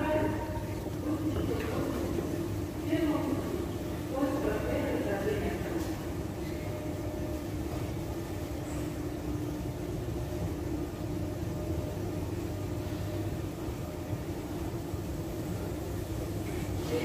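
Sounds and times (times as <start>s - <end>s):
ambient low hum: 0.0s - 17.0s.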